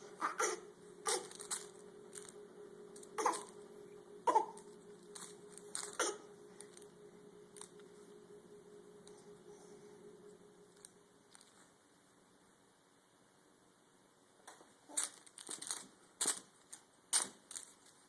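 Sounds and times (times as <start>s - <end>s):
steady low hum: 0.0s - 14.5s.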